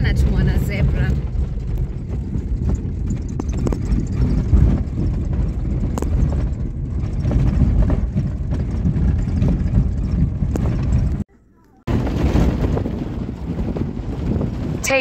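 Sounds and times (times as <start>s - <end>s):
car rumbling on dirt road: 0.0s - 11.3s, 11.9s - 15.0s
knocks and rattles over bumps: 0.0s - 15.0s.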